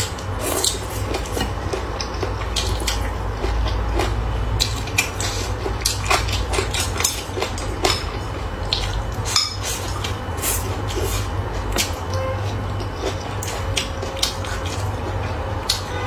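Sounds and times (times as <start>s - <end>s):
steady low hum: 0.0s - 16.0s
utensils clinking against a bowl: 0.0s - 16.0s.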